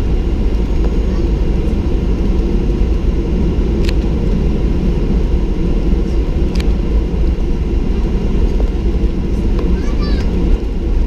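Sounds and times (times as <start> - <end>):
airplane cabin engine noise: 0.0 - 11.0.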